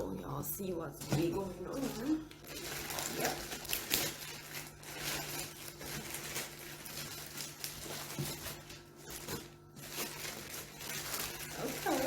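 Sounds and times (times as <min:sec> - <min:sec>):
packaging rustling and scratching: 0:01.0 - 0:12.0.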